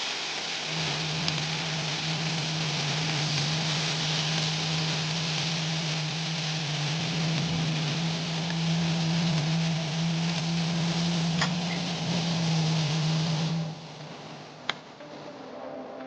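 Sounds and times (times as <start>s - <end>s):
food sizzling in a frying pan: 0.0s - 15.9s
steady low hum: 0.5s - 16.0s.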